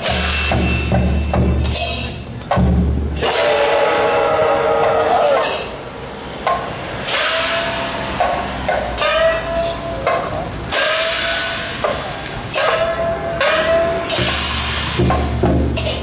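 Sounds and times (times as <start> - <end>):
cymbals clashing: 0.0 - 16.0.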